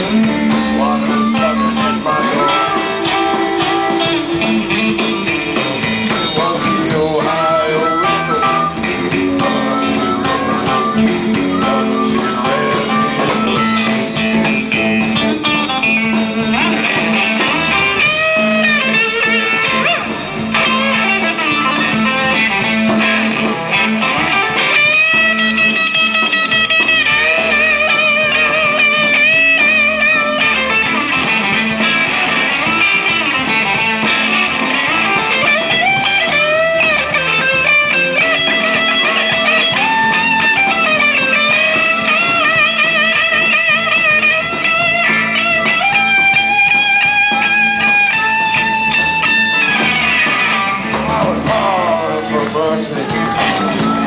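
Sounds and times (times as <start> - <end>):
blues band playing: 0.0 - 54.0
electric guitar bending notes: 0.0 - 54.0.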